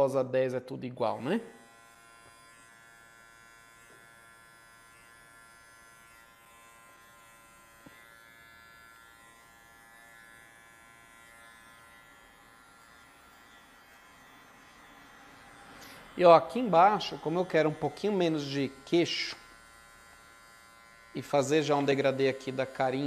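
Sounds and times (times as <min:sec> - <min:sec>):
electric clipper buzzing: 0:01.0 - 0:23.0.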